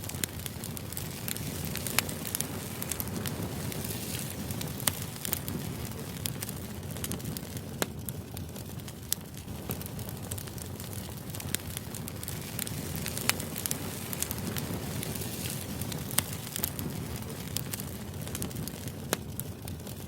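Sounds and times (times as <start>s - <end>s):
sharp crackles and clicks: 0.0s - 20.0s.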